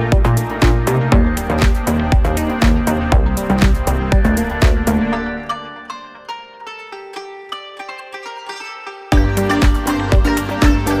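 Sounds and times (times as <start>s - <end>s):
plucked-string melody over bass: 0.0s - 11.0s.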